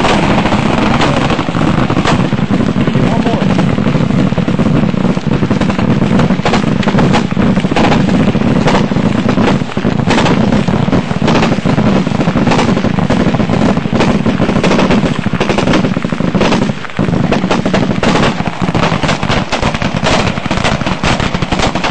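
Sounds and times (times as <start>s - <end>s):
machine gun firing bursts: 0.0s - 21.9s.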